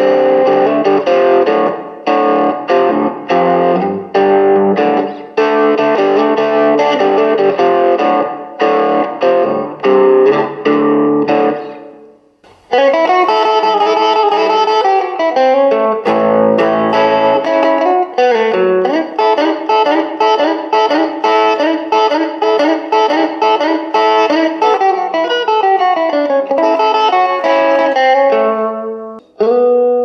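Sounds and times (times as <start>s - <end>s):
electric guitar through amp: 0.0s - 30.0s.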